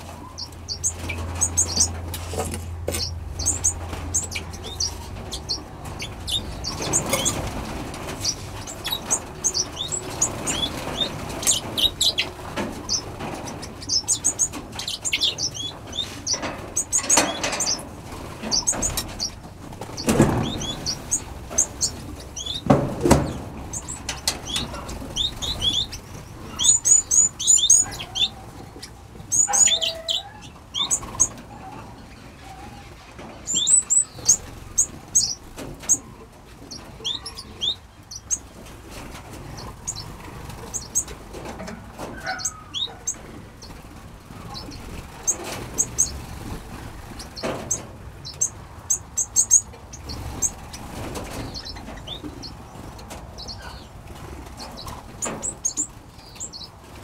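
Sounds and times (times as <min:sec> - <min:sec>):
finches chirping: 0:00.0 - 0:02.0, 0:02.9 - 0:07.6, 0:08.2 - 0:32.3, 0:33.4 - 0:36.1, 0:36.7 - 0:38.5, 0:39.4 - 0:41.2, 0:42.1 - 0:43.8, 0:44.4 - 0:52.7, 0:53.3 - 0:56.8.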